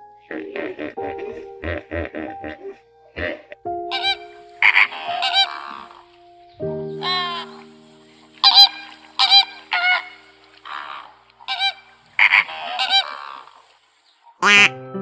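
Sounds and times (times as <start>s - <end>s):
flamingos honking: 0.2s - 14.7s.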